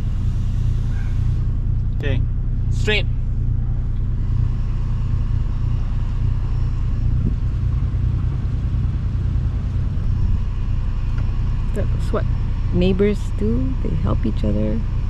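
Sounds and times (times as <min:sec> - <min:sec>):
boat engine low rumble: 0:00.0 - 0:15.0.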